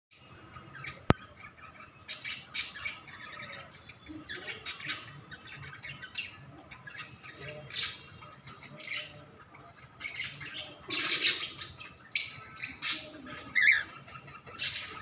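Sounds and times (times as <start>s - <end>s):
cockatiels chirping: 0.7s - 15.0s.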